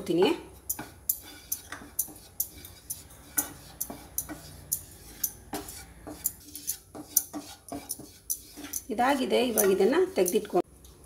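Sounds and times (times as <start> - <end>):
wooden spatula tapping and scraping pan: 0.0 - 10.7.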